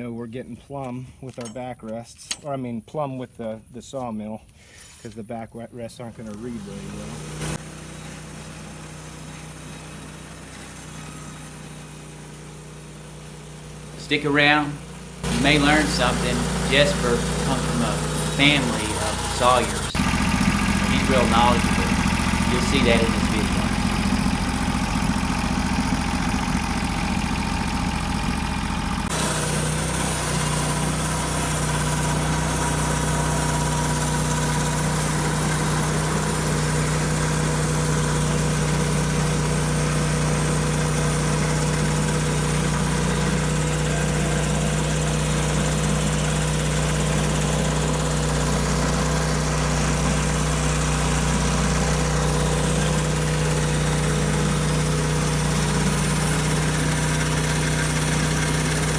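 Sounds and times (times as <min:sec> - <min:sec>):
sawmill engine running: 0:06.0 - 0:58.9.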